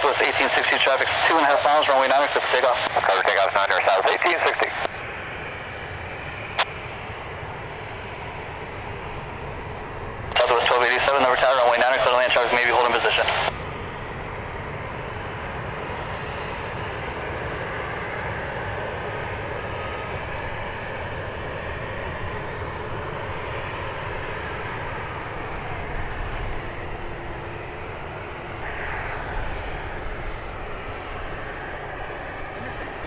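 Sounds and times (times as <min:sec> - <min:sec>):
jet engines at takeoff power: 0:00.0 - 0:33.0.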